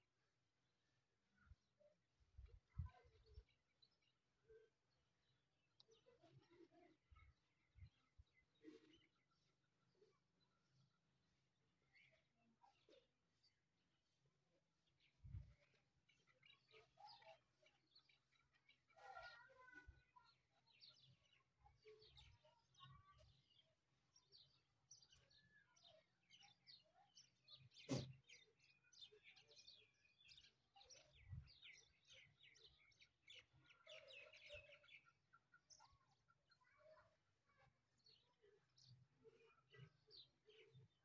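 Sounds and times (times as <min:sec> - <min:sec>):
birds chirping: 0:02.4 - 0:41.0.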